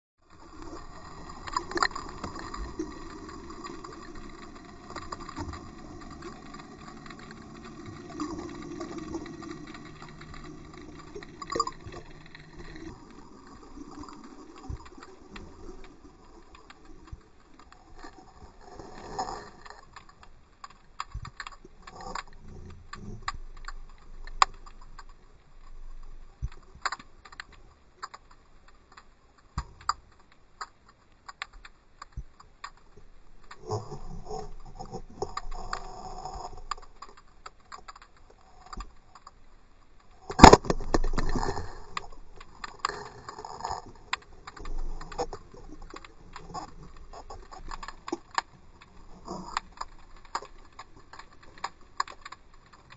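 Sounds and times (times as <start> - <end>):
sharp underwater clicks: 0.2 - 52.9.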